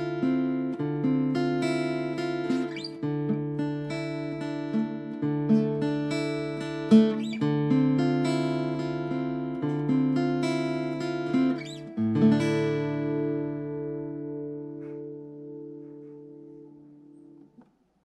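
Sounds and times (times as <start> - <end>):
acoustic guitar plucking: 0.0 - 17.7.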